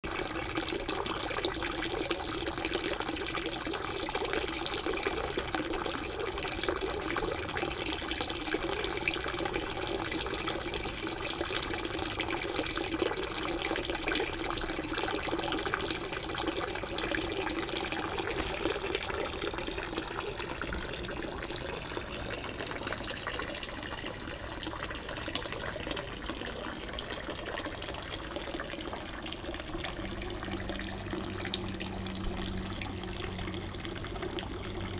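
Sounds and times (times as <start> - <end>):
fountain water trickling: 0.0 - 34.9.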